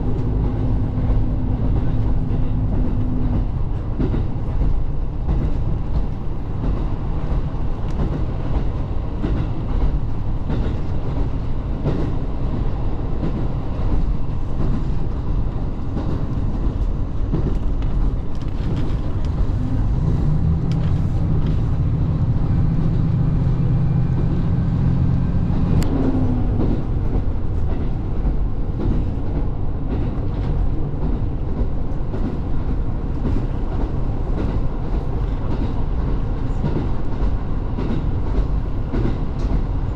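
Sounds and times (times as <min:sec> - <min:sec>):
diesel train on rails: 0:00.0 - 0:39.9.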